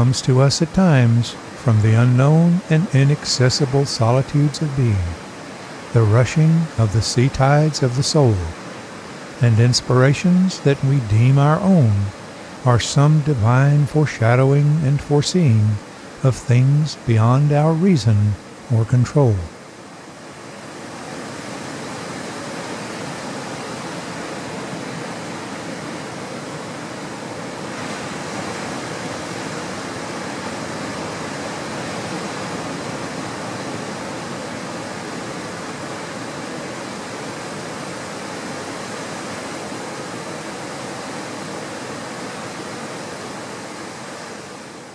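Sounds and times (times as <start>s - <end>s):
sea surf washing on shore: 0.0s - 44.9s.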